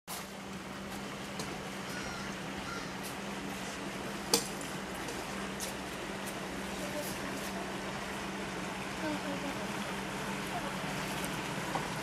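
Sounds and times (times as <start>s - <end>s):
steady low hum: 0.1s - 12.0s.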